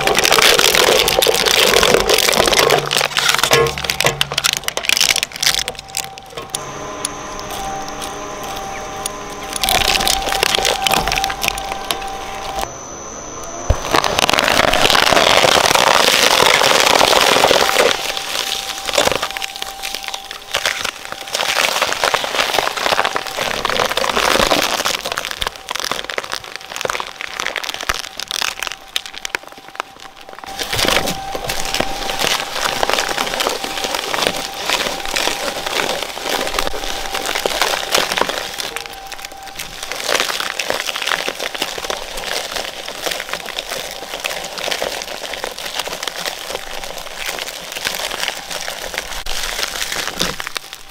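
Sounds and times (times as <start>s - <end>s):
shredder crunching foam and plastic: 0.0s - 50.9s
thin steady machine whine: 0.0s - 50.9s.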